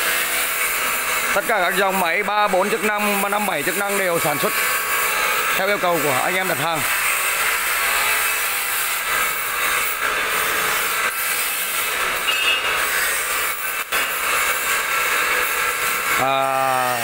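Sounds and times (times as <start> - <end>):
metalworking machinery hissing: 0.0 - 17.0.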